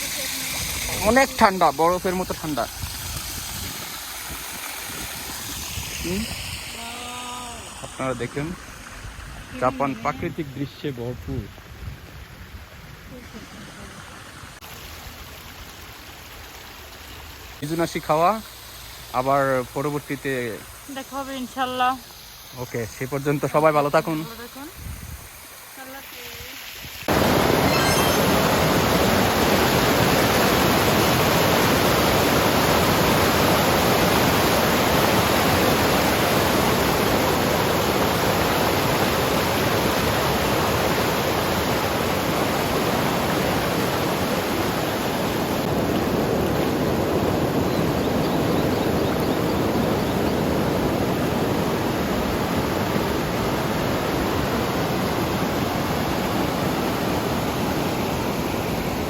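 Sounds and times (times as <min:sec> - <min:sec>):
river rushing: 0:00.0 - 0:11.0, 0:17.6 - 0:59.0.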